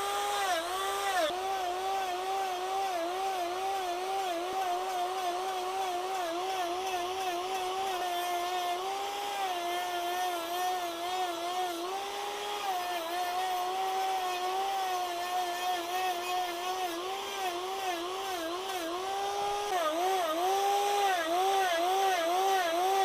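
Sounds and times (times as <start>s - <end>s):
electric grinder cutting wood: 0.0s - 23.0s.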